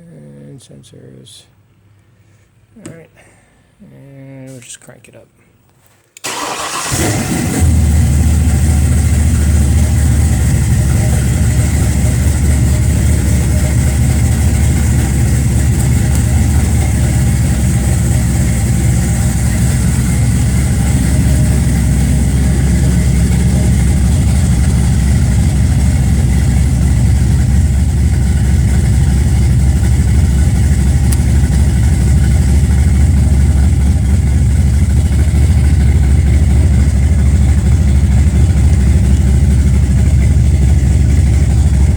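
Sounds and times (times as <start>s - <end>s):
truck engine idling: 6.3s - 41.9s.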